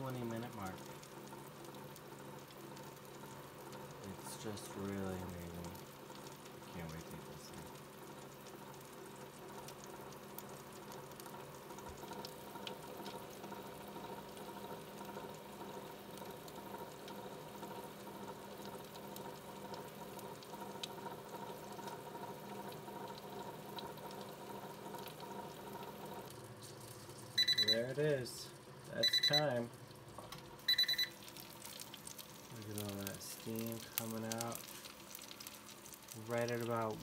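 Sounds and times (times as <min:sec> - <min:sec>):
meat sizzling and popping: 0:00.0 - 0:37.0
oven fan humming: 0:00.0 - 0:37.0.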